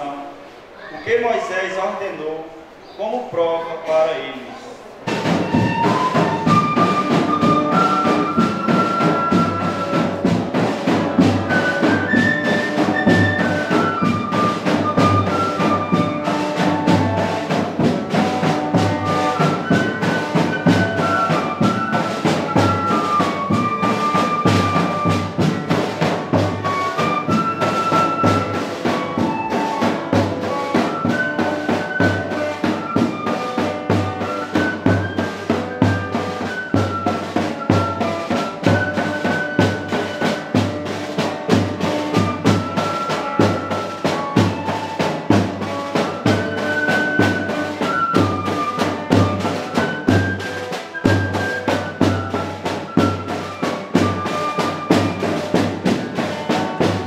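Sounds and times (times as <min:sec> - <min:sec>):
drums steady beat: 0:04.9 - 0:57.0
horns playing melody: 0:05.1 - 0:57.0.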